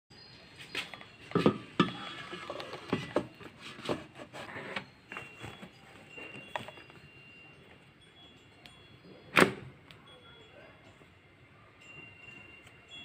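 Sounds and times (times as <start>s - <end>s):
thin high tone: 0.1s - 13.0s.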